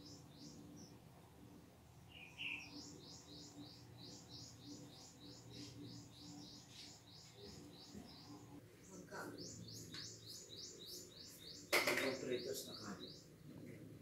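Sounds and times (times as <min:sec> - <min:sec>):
bird chirping: 0:00.0 - 0:01.3, 0:02.0 - 0:13.4.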